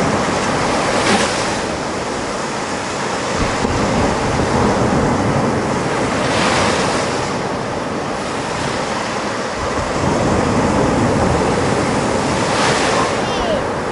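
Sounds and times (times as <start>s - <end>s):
surf breaking on beach: 0.0s - 13.9s
wind buffeting microphone: 0.0s - 13.9s.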